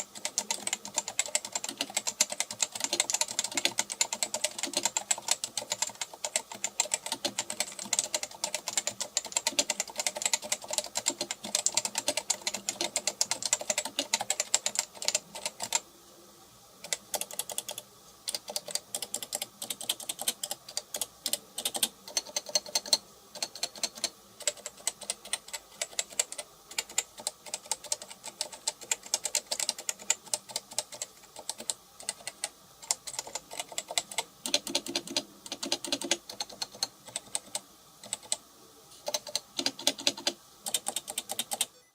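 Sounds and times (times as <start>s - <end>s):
keyboard typing: 0.0s - 15.8s, 16.8s - 38.4s, 39.0s - 41.9s.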